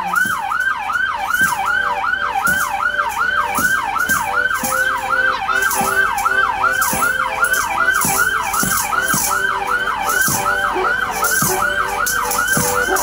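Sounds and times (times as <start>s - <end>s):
accordion: 0.0s - 13.0s
fire truck siren yelping: 0.0s - 13.0s.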